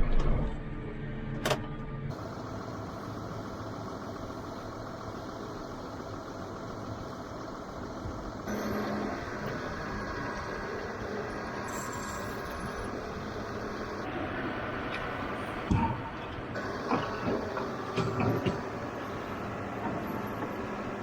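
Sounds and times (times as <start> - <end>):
low hum: 1.9 - 21.0
vehicle engine running: 2.1 - 15.7, 16.4 - 21.0.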